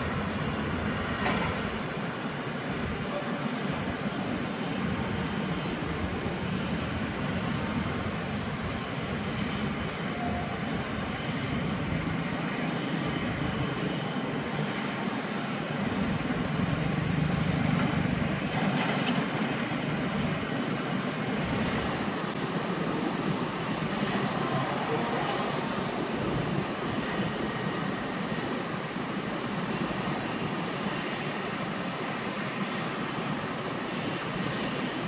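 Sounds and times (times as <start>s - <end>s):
excavator diesel engines droning: 0.0s - 35.0s.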